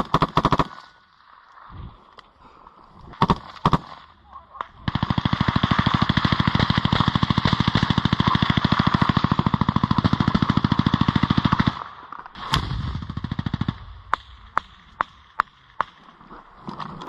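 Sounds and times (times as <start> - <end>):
gunshots: 0.0 - 1.0, 3.2 - 16.1.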